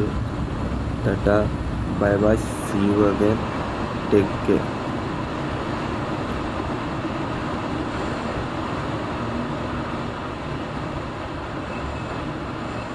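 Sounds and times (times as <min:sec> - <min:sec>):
vehicle engine and road noise: 0:00.0 - 0:12.9.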